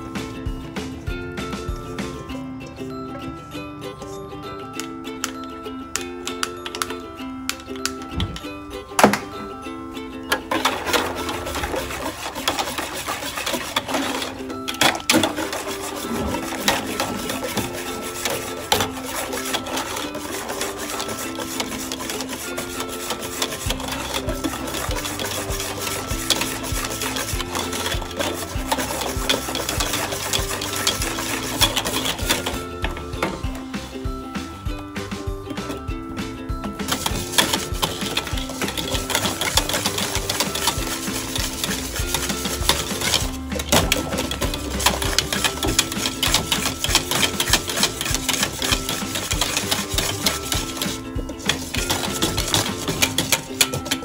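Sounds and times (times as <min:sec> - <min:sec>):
whisk beating in metal pan: 0:00.0 - 0:02.4, 0:10.4 - 0:54.0.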